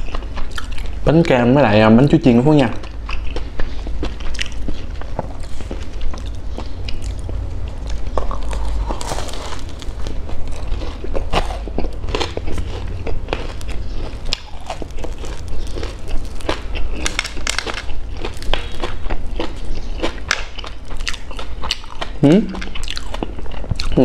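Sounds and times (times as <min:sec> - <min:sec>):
crunchy food chewing: 0:00.0 - 0:01.0, 0:02.6 - 0:24.0
steady low hum: 0:00.0 - 0:24.0
crust crackling: 0:02.3 - 0:24.0.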